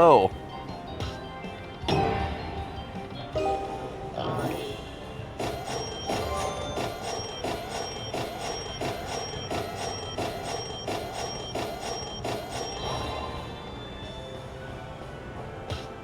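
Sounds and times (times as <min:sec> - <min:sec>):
slot machine electronic chime: 0:00.0 - 0:14.5.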